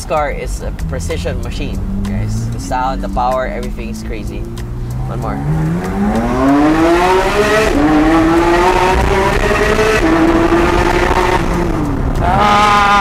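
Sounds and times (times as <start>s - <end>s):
sports car engine accelerating: 0.1s - 13.0s.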